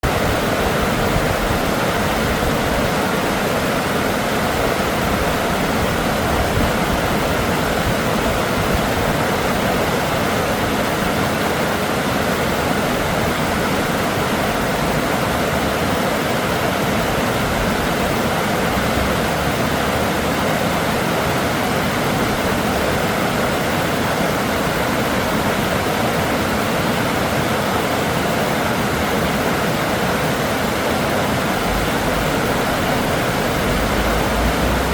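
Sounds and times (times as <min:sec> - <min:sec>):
river water rushing: 0:00.0 - 0:34.9.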